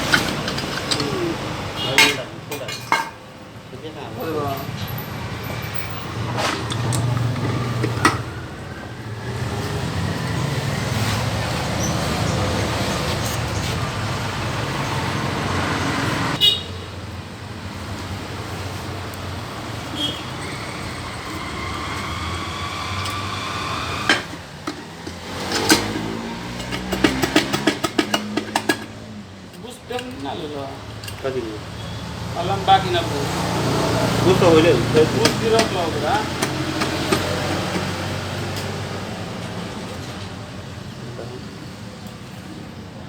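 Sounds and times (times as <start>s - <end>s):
vehicle engines accelerating: 0.0s - 16.4s, 17.0s - 43.0s.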